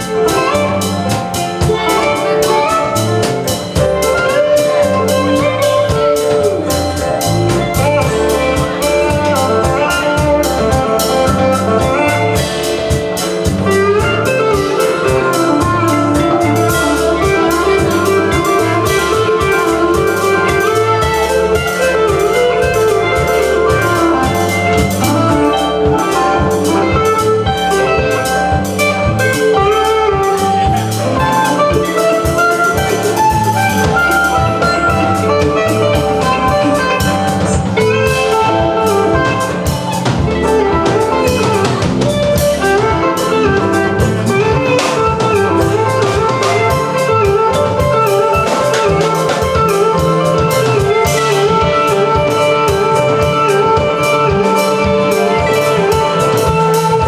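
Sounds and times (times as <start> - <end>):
drum kit steady beat: 0.0 - 57.0
guitar: 0.0 - 57.0.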